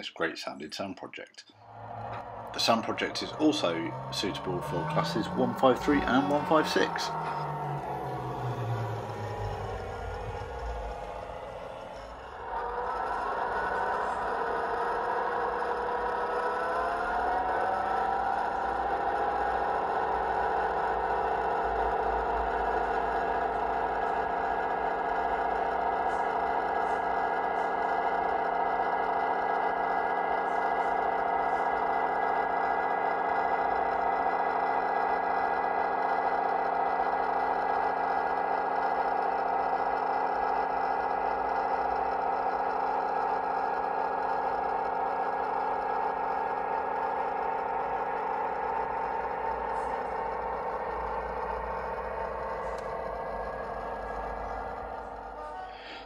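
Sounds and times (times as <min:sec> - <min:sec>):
model train diesel engine sound: 0:01.5 - 0:56.0.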